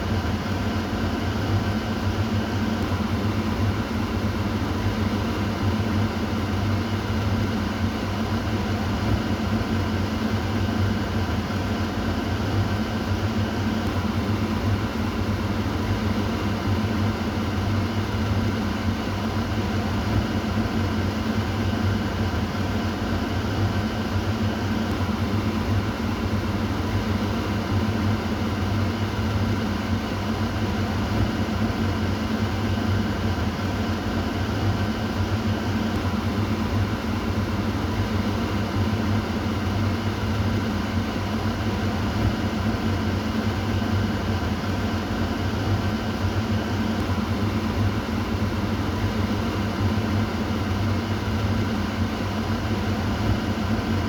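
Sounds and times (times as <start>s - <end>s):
exhaust fan whirring: 0.0s - 54.0s.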